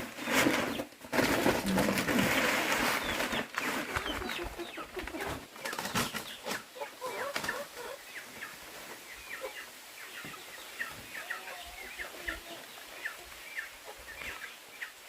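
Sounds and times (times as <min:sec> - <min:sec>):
ducklings peeping: 0:01.6 - 0:15.0.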